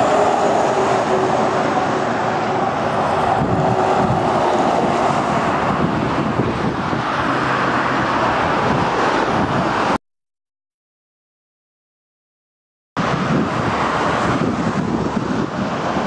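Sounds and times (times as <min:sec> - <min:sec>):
cars passing: 0:00.0 - 0:10.0, 0:13.0 - 0:16.0.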